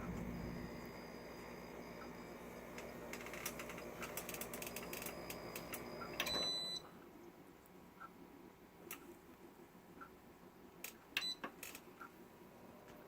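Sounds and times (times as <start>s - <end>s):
dehumidifier hum: 0.0s - 13.0s
faint high-pitched whine: 0.0s - 13.0s.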